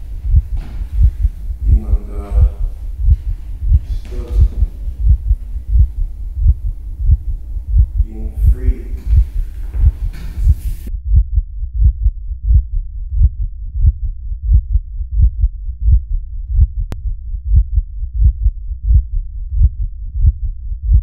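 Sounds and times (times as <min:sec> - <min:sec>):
heartbeat-like bass pulse: 0:00.0 - 0:21.0.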